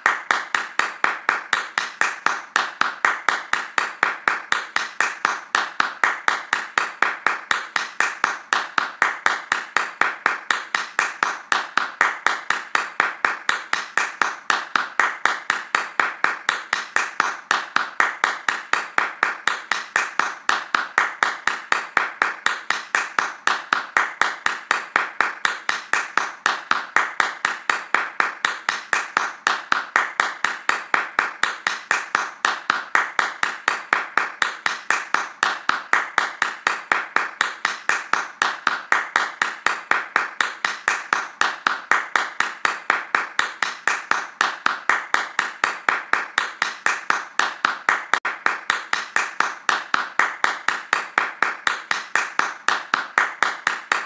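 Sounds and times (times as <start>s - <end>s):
hands clapping fast: 0.0s - 54.0s.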